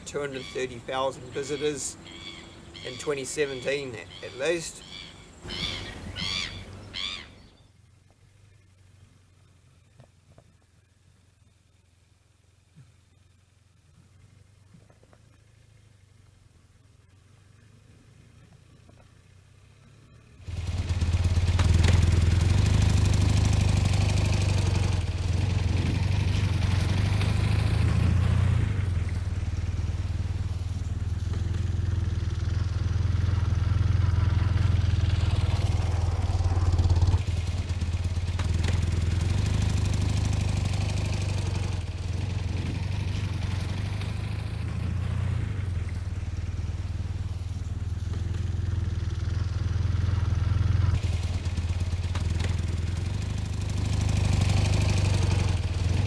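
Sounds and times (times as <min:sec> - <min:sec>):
motorcycle engine running: 0:00.0 - 0:07.4, 0:08.0 - 0:56.0
wind and road noise: 0:00.0 - 0:08.8, 0:13.3 - 0:56.0.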